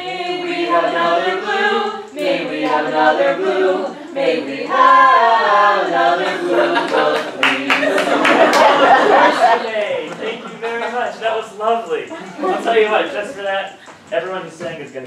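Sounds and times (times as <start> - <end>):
group singing unaccompanied: 0.0 - 10.6, 11.3 - 14.2.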